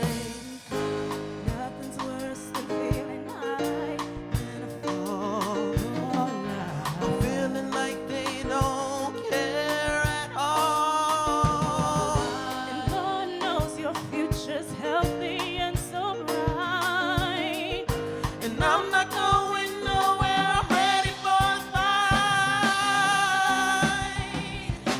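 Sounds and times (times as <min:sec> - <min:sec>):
backing instruments: 0:00.0 - 0:24.9
person singing with vibrato: 0:00.0 - 0:24.9
steady drum beat: 0:00.0 - 0:24.9.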